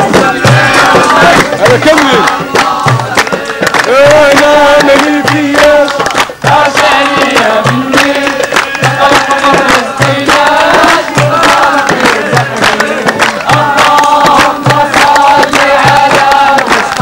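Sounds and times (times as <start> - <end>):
drum beat: 0.0 - 17.0
group of voices chanting: 0.0 - 17.0
hand claps: 0.0 - 17.0.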